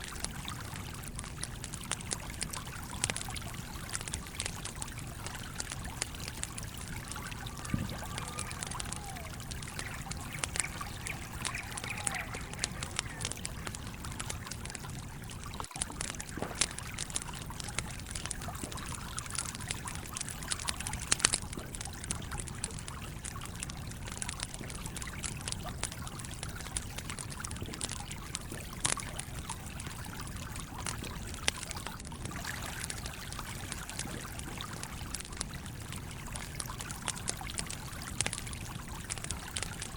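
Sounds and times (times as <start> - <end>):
campfire crackling and popping: 0.0 - 39.9
stream running: 0.0 - 39.9.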